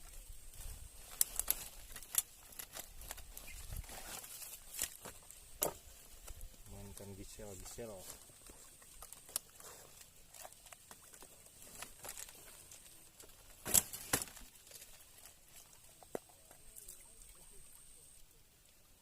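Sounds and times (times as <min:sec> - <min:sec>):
light clicks and rustles: 0:00.0 - 0:17.2
faint high-pitched whine: 0:00.0 - 0:19.0.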